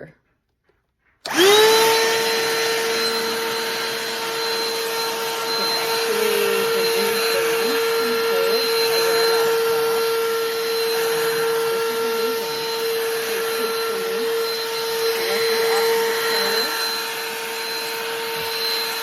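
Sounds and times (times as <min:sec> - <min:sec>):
handheld vacuum running: 0:01.1 - 0:19.0.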